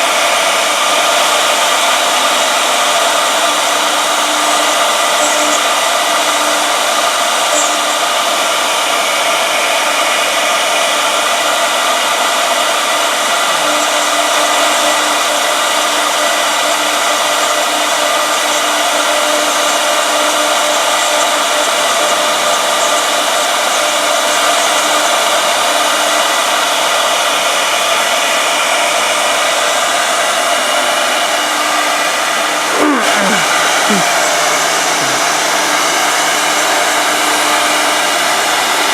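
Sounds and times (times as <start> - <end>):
router spindles whining: 0.0 - 38.9.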